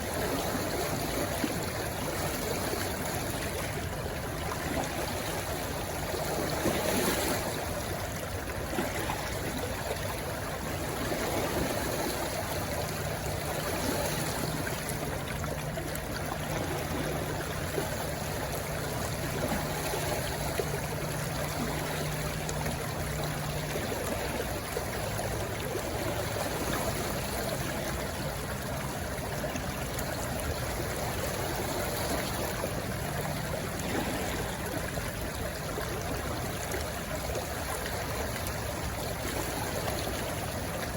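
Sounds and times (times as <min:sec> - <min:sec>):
stream rushing: 0:00.0 - 0:40.9.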